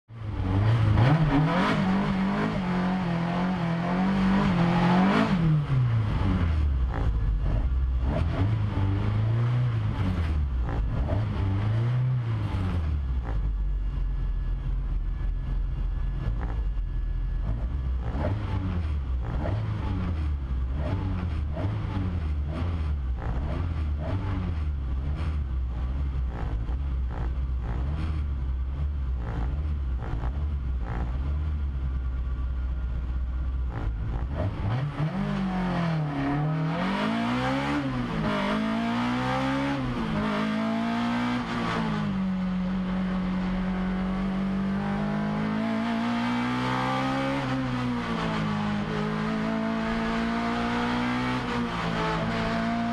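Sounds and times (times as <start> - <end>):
race car engine revving and idling: 0.1 - 52.9.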